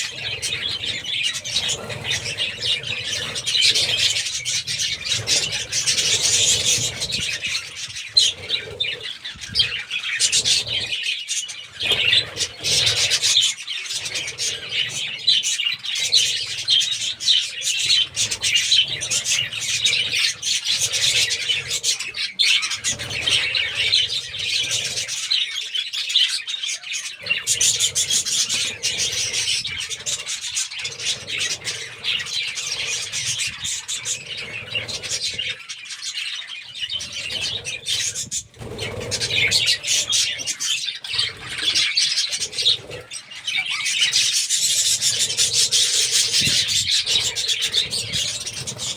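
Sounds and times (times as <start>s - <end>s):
budgerigars chattering and chirping: 0.0s - 48.9s.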